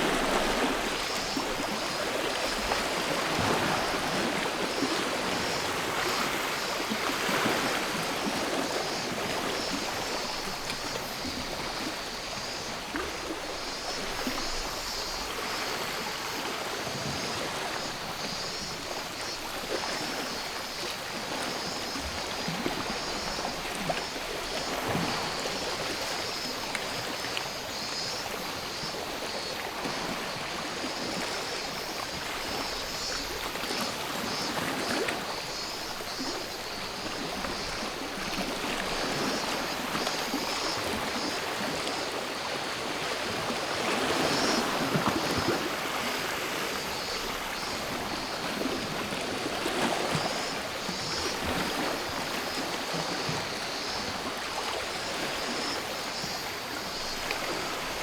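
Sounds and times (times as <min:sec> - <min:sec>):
cicadas buzzing: 0:00.0 - 0:58.0
sea water lapping on shore: 0:00.0 - 0:58.0.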